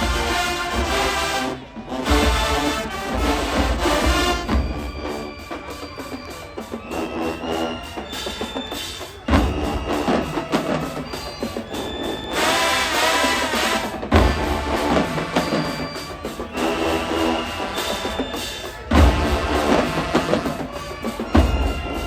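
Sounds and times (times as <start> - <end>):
drumline percussion: 0.0 - 22.0
marching band playing: 0.0 - 22.0.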